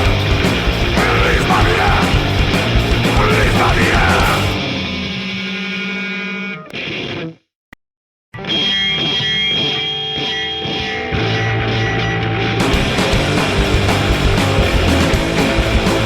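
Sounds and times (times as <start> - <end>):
punk rock band playing: 0.0 - 5.6, 8.4 - 16.0
guitar feedback whine: 0.0 - 7.3, 8.4 - 16.0
distorted electric guitar: 0.0 - 7.5, 8.4 - 16.0.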